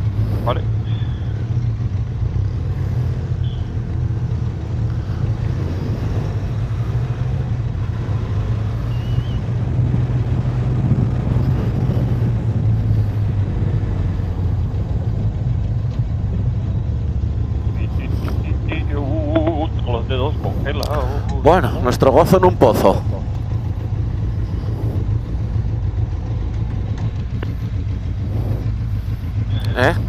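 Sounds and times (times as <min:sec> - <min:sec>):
motorcycle engine running: 0:00.0 - 0:30.0
road and wind noise: 0:00.0 - 0:30.0.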